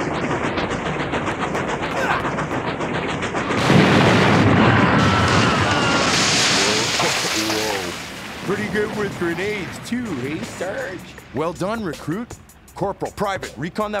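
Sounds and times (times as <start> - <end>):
loud rumbling explosion: 0.0 - 11.4.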